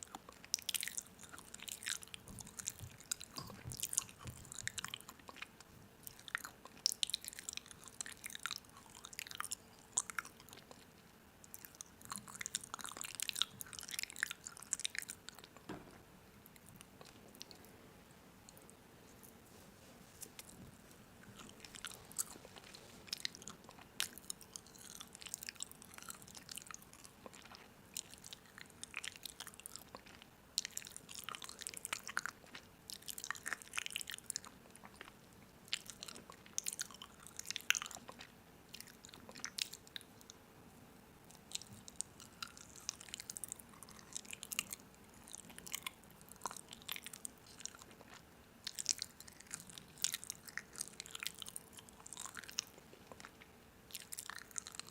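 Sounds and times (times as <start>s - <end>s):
crunchy food being chewed: 0.0s - 15.7s, 16.4s - 17.7s, 20.2s - 40.4s, 41.2s - 54.9s
faint steady hum: 0.0s - 54.9s.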